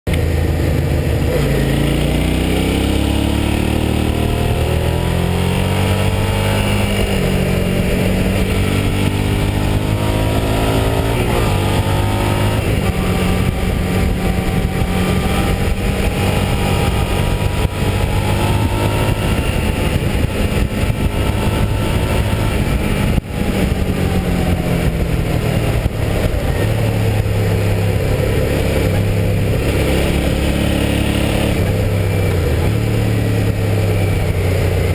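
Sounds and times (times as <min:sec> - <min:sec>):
motorcycle engine accelerating: 0:00.1 - 0:34.9
wind rushing over microphone: 0:00.2 - 0:34.9.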